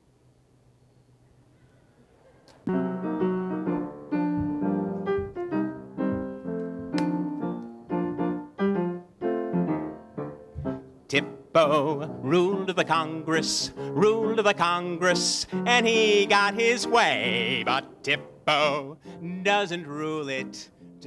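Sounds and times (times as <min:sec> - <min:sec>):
piano chords over bass line: 0:02.7 - 0:21.0.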